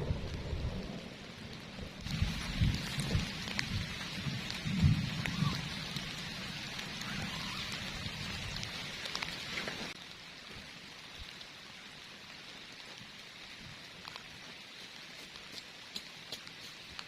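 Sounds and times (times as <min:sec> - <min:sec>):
heavy rain falling: 0:00.0 - 0:17.0
raindrops ticking close by: 0:00.0 - 0:17.0.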